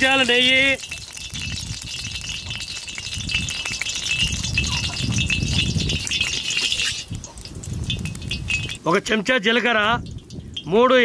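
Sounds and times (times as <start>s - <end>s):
ghee sizzling in hot oil: 0.0s - 8.8s, 9.6s - 10.8s.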